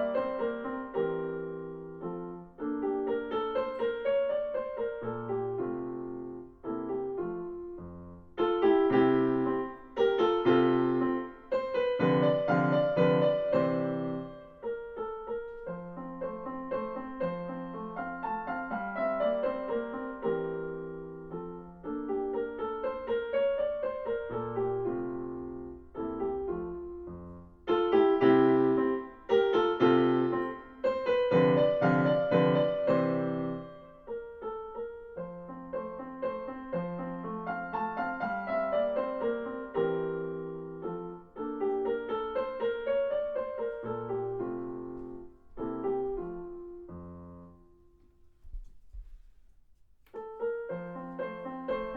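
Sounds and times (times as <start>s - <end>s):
digital piano playing chords: 0.0s - 48.0s.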